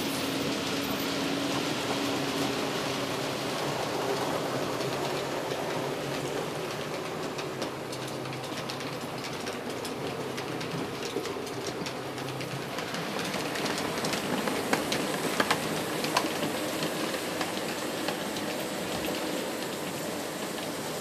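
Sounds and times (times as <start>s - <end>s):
model trains rattling on track: 0.0s - 21.0s.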